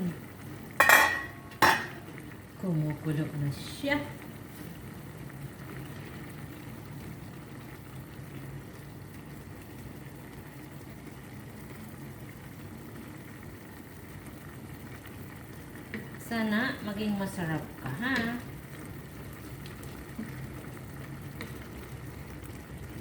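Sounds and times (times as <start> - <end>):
pot boiling with bubbling hiss: 0.0 - 23.0.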